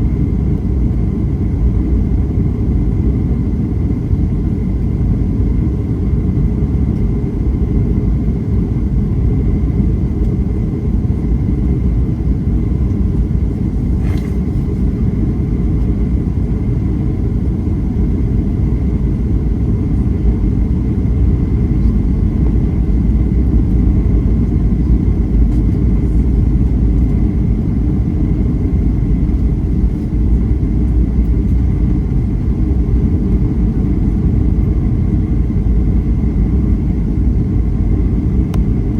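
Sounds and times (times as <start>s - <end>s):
airliner engine rumble: 0.0s - 38.9s.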